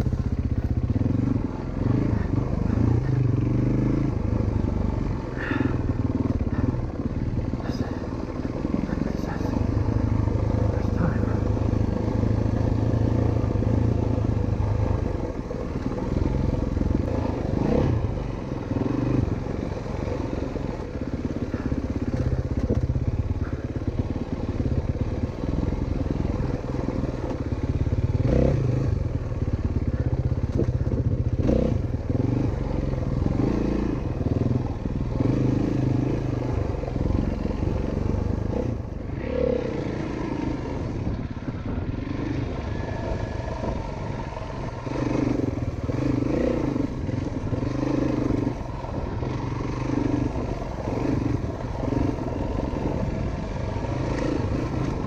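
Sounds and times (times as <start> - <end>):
dirt bike engine revving: 0.8 - 30.0, 30.6 - 55.0.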